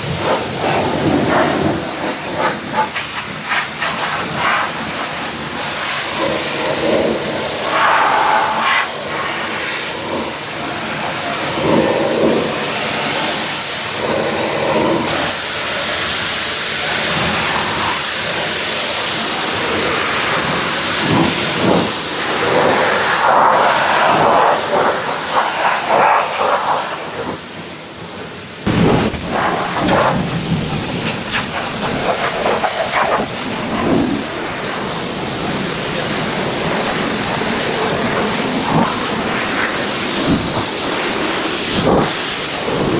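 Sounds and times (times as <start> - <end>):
pressure washer jet hissing: 0.0 - 27.2, 28.7 - 42.9.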